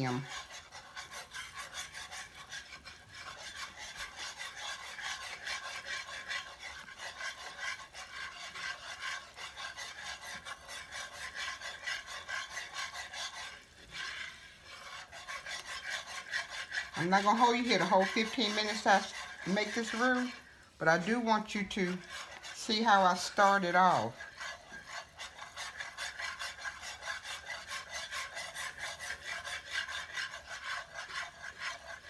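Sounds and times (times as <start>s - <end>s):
wooden spoon scraping skillet: 0.0s - 32.0s.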